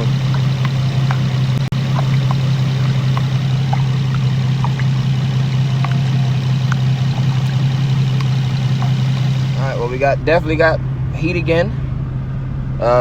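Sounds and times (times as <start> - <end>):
car engine idling: 0.0 - 12.2.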